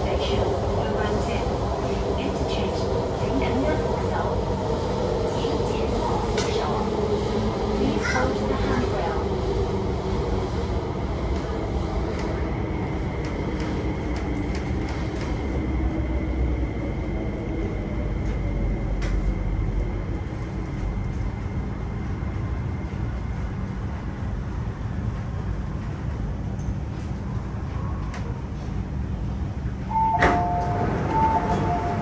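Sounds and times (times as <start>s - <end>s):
electric train rumbling: 0.0s - 32.0s.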